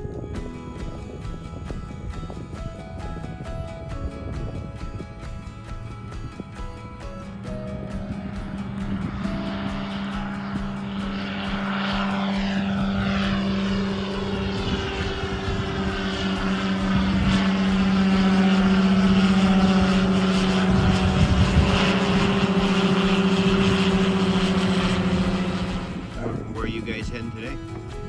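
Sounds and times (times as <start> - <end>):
propeller airplane engine drone: 0.0 - 28.0.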